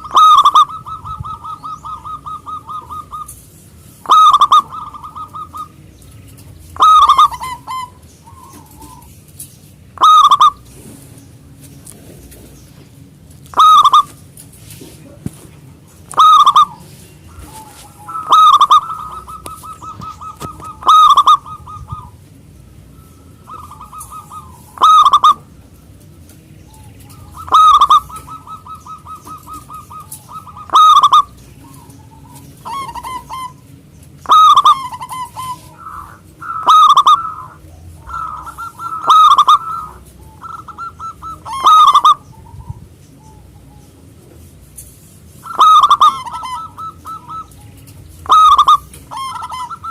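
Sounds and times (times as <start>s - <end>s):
dove cooing: 0.0s - 44.4s, 45.2s - 49.9s.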